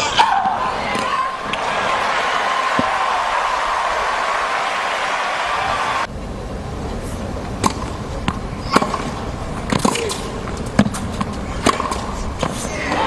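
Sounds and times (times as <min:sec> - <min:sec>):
quiet stadium crowd: 0:00.0 - 0:13.0.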